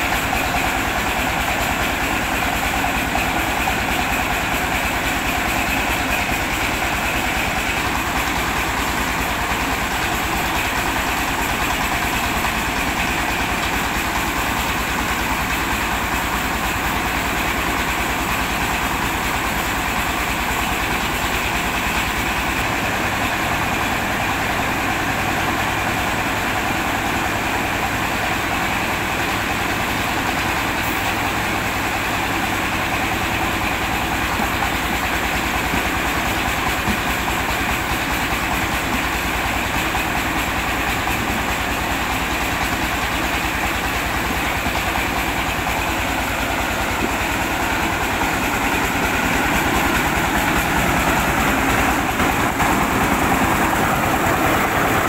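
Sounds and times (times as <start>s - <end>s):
rice milling machine running: 0.0s - 55.0s.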